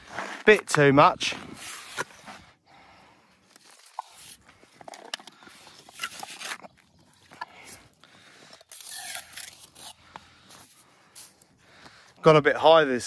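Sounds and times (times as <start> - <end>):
mortar and stone scraping: 0.0 - 2.5, 3.5 - 11.4.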